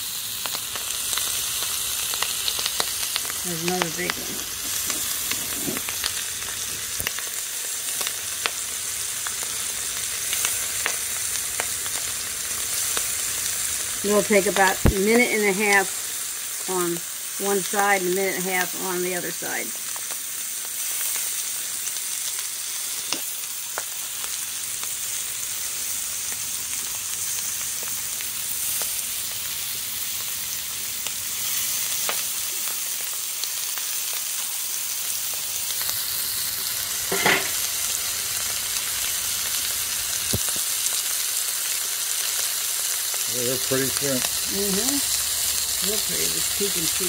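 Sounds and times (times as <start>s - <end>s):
oil crackle: 0.0s - 47.0s
shrimp sizzling on a griddle: 0.0s - 47.0s.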